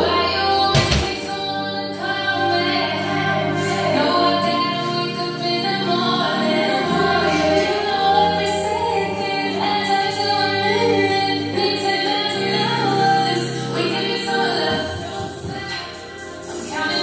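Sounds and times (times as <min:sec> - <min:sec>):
pop music: 0:00.0 - 0:17.0
woman singing: 0:00.0 - 0:17.0.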